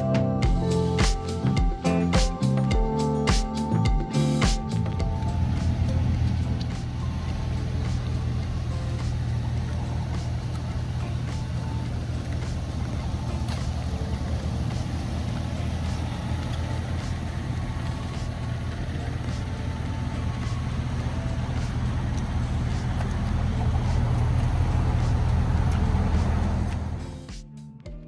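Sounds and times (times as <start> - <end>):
vehicle engine droning: 0.0 - 27.3.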